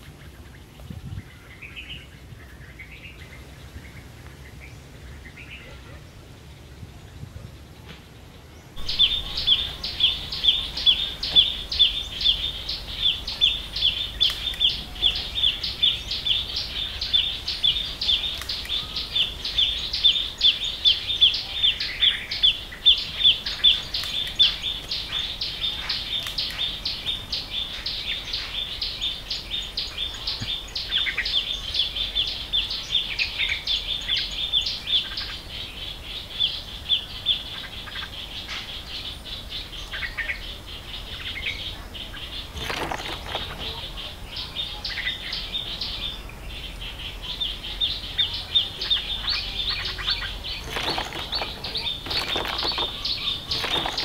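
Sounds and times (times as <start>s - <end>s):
bird chirping: 0.0s - 54.0s
faint other birds calling: 0.0s - 54.0s.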